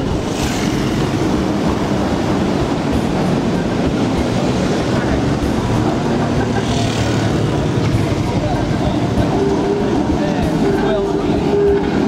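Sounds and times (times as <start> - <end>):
electric tram rumbling on rails: 0.0 - 12.0.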